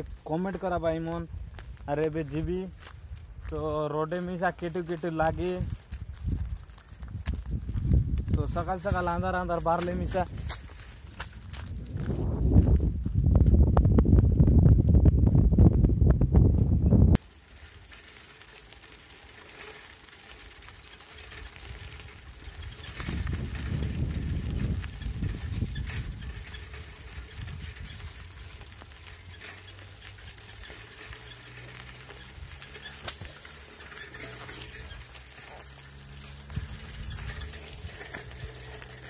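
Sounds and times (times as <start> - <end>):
bicycle on gravel track: 0.0 - 15.2, 16.8 - 39.0
wind buffeting microphone: 0.0 - 19.6, 20.2 - 39.0
bike rattles and clicks: 0.0 - 39.0.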